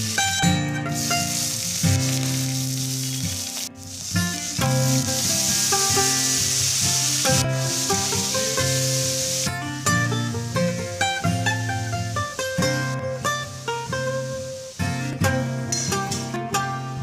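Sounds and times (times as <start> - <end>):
instrumental background music: 0.0 - 17.0
oil sizzling in a wok: 0.0 - 17.0.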